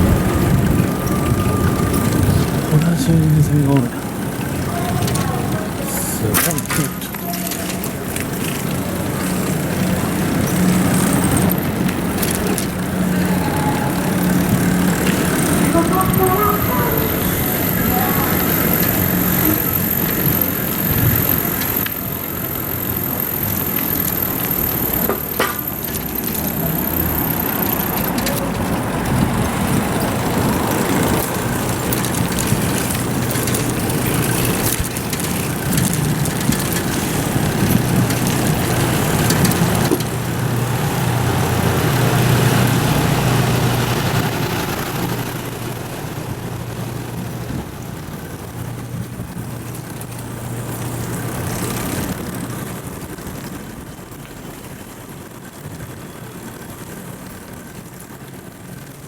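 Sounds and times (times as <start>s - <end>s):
motor vehicle hum: 0.0s - 59.0s
wind and road noise: 0.0s - 59.0s.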